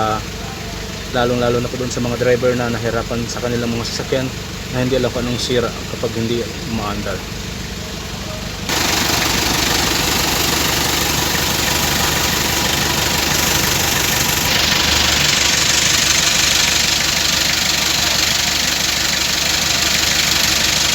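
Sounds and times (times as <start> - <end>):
diesel engine idling: 0.0 - 20.9.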